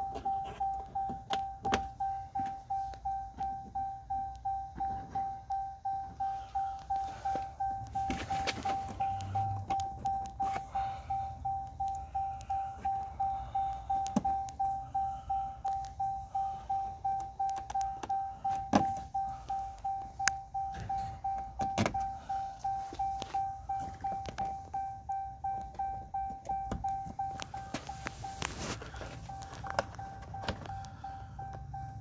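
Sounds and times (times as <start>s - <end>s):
door-open warning chime: 0.0s - 32.0s.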